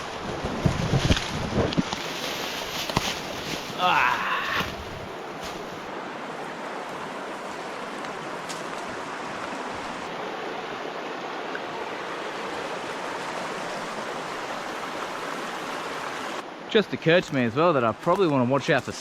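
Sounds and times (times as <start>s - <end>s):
river water rushing: 2.0s - 19.0s.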